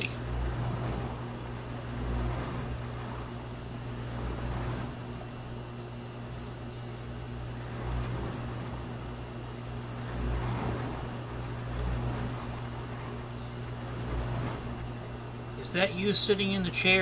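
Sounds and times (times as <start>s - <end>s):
faint rushing noise: 0.0s - 17.0s
steady low hum: 0.0s - 17.0s.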